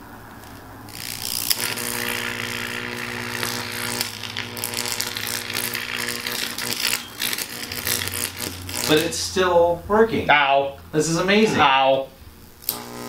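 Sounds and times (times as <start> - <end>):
electric arc buzzing and crackling: 0.0 - 13.0
steady electrical hum: 0.0 - 13.0.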